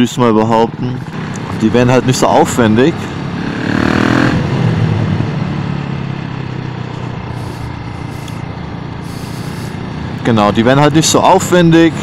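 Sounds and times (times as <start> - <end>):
motorcycle engine: 0.3 - 12.0.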